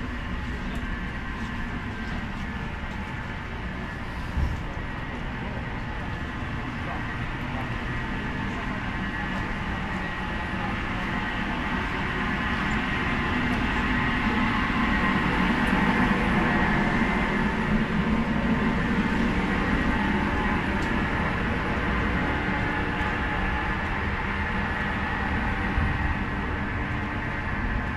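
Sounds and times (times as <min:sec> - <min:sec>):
ventilation fans roaring: 0:00.0 - 0:27.9.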